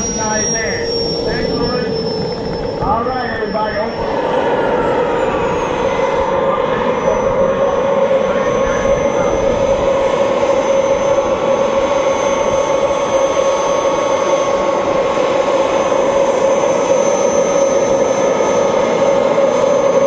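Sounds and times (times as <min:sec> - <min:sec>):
model jet turbine whine: 0:00.0 - 0:20.0.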